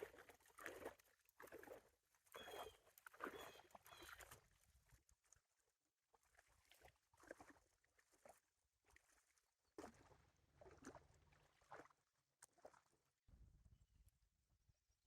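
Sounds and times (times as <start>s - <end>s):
water splashing and lapping: 0.0s - 13.2s.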